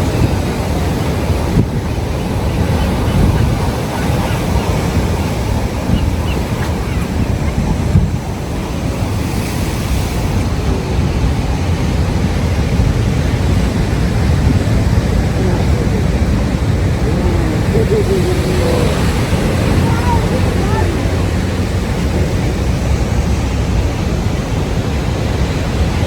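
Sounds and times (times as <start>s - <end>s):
ocean surf washing on shore: 0.0s - 26.0s
wind buffeting microphone: 0.0s - 26.0s.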